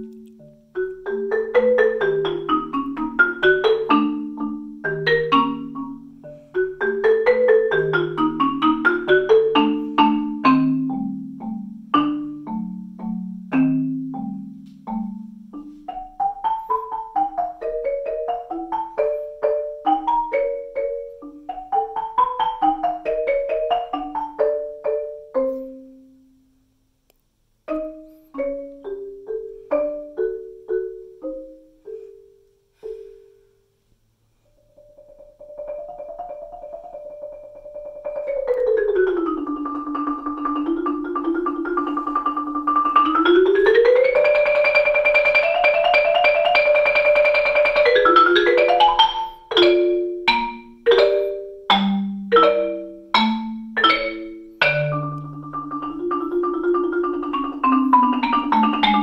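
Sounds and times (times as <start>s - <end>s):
marimba played with soft mallets: 0.0s - 26.3s, 27.7s - 33.8s, 34.4s - 59.0s.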